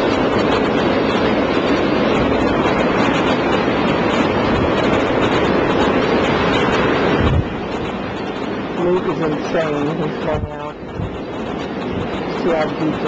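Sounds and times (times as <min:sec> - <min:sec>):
blizzard wind buffeting microphone: 0:00.0 - 0:13.0.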